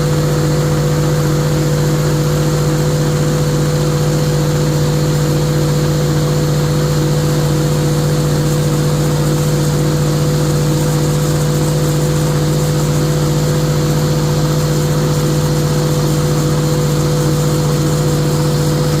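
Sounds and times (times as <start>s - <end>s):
pile-driving machinery drone: 0.0s - 19.0s.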